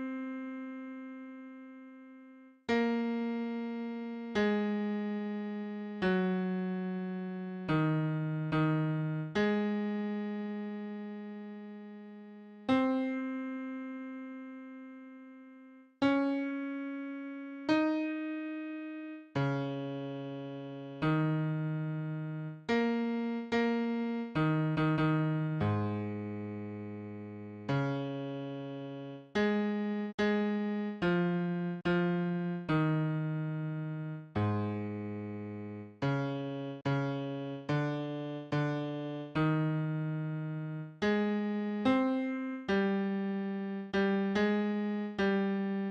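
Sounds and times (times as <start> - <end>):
electric piano chords: 2.7 - 14.8, 16.0 - 45.9.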